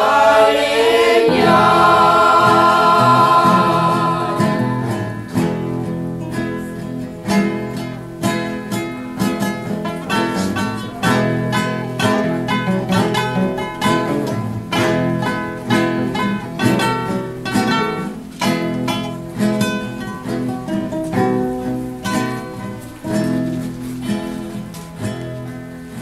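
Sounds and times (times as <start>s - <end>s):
plucked string instruments: 0.0s - 26.0s.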